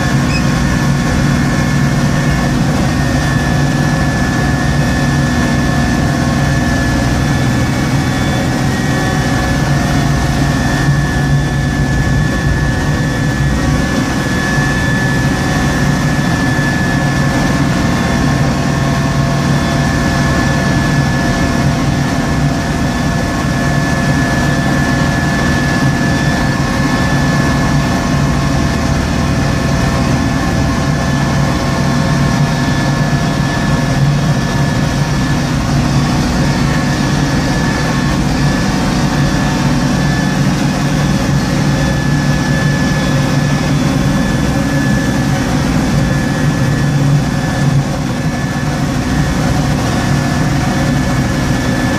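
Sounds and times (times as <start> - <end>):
high whine: 0.0 - 51.9.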